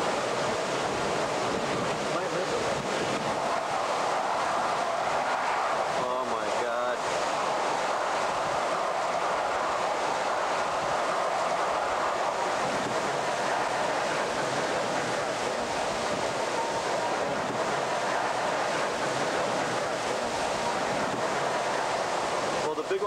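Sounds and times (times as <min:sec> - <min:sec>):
hurricane wind: 0:00.0 - 0:23.0
rough sea: 0:00.0 - 0:23.0
wind buffeting microphone: 0:00.0 - 0:23.0.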